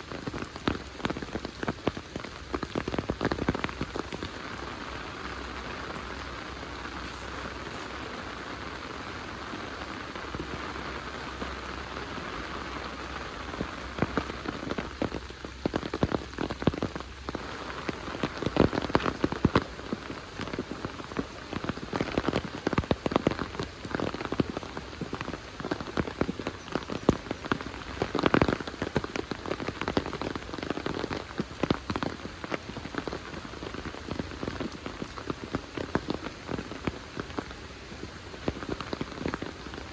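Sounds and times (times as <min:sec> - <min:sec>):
heavy rain hissing: 0:00.0 - 0:39.9
rain drops tapping close by: 0:00.0 - 0:39.9.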